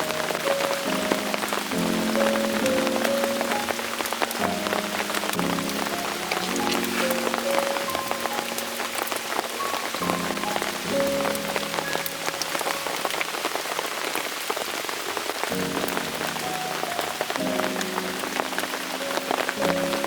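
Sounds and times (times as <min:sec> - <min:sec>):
soft background music: 0:00.0 - 0:13.3, 0:15.5 - 0:20.0
heavy rain on a tent: 0:00.0 - 0:20.0.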